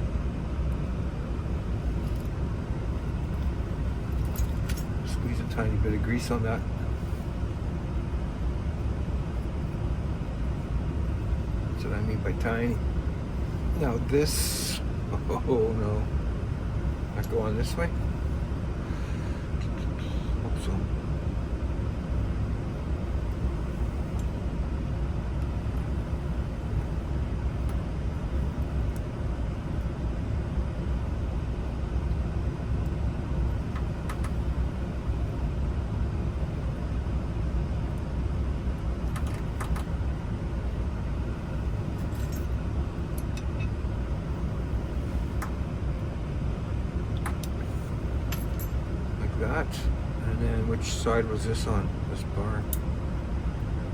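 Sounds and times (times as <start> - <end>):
low background rumble: 0.0 - 53.9.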